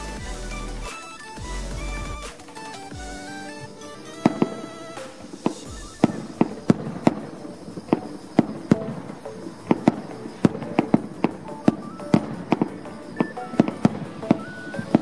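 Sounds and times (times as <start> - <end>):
faint music: 0.0 - 15.0.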